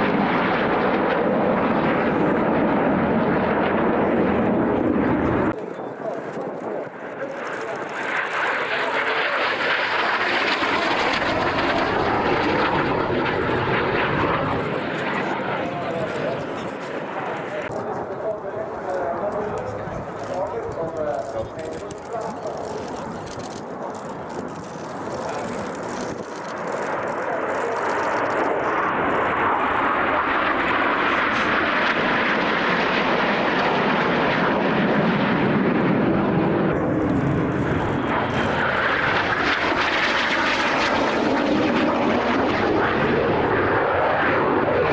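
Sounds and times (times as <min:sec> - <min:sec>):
aircraft engine noise: 0:00.0 - 0:44.9.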